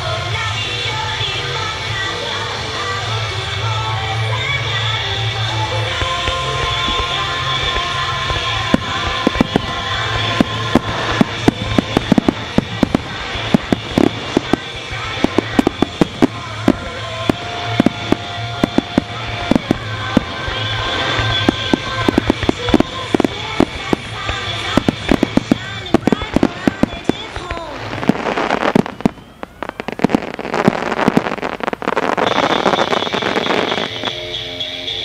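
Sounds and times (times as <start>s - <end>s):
music playing: 0.0s - 35.0s
firework shells bursting: 5.8s - 34.2s.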